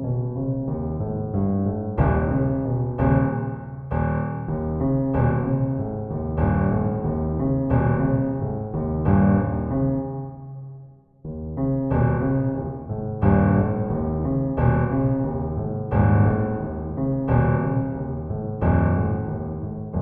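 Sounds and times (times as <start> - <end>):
slow piano chords: 0.0 - 20.0.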